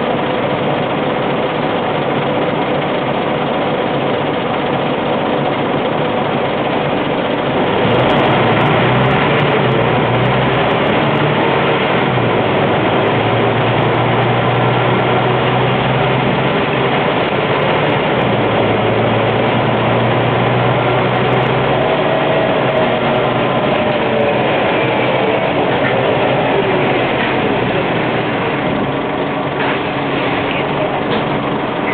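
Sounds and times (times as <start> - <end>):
bus diesel engine drone: 0.0 - 31.9.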